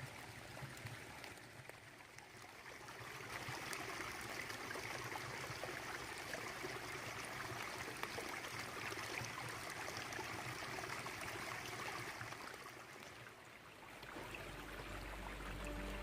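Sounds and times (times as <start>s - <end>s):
brook babbling over stones: 0.0s - 16.0s.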